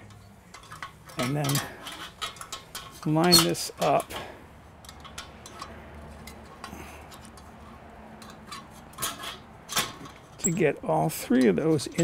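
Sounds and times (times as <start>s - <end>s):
light metallic clicks and clinks: 0.0s - 10.6s.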